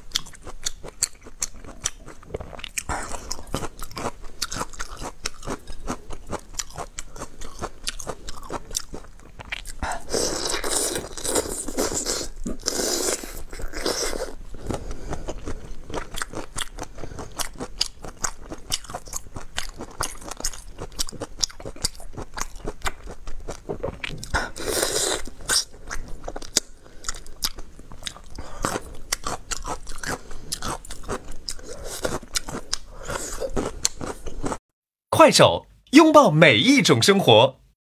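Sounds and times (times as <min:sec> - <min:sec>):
wet biting and chewing: 0:00.0 - 0:34.6.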